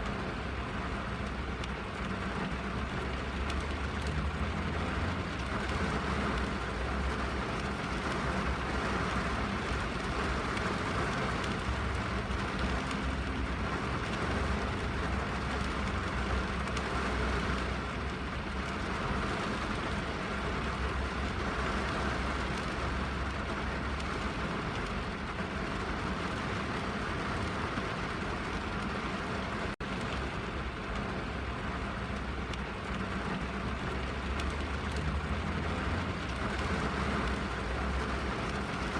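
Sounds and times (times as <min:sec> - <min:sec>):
rain on car roof: 0:00.0 - 0:38.9.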